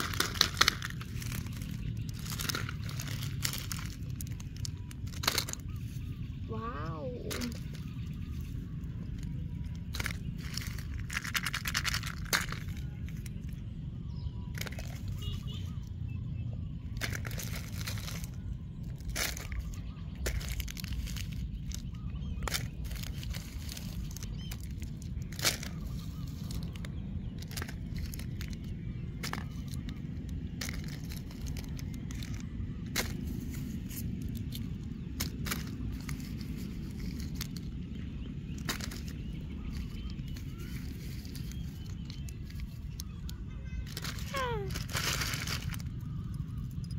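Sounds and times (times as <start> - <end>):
plastic wrappers crinkling: 0.0 - 6.4, 7.2 - 15.9, 16.6 - 46.9
low rumble: 0.0 - 46.9.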